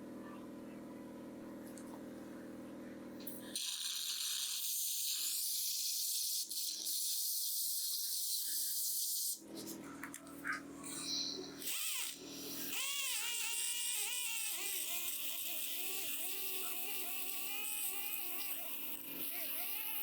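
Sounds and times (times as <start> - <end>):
dental equipment hum: 1.4 - 20.0.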